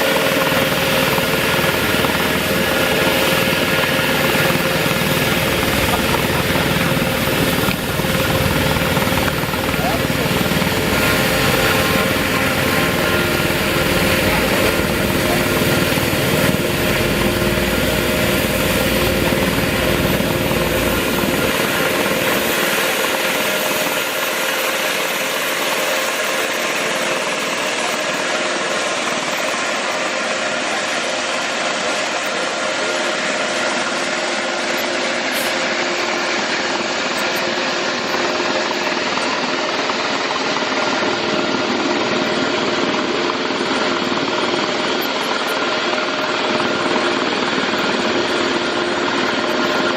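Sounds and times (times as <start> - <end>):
helicopter turbine engine whine: 0.0 - 49.9.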